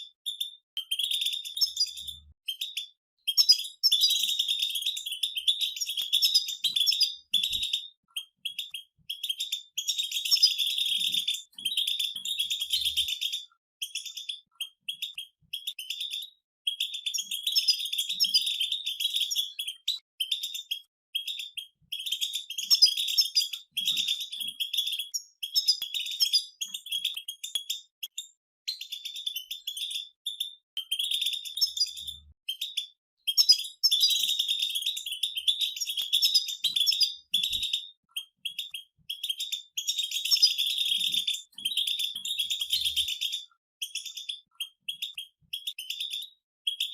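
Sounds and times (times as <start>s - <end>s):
finches twittering: 0.2s - 28.2s, 28.8s - 46.9s.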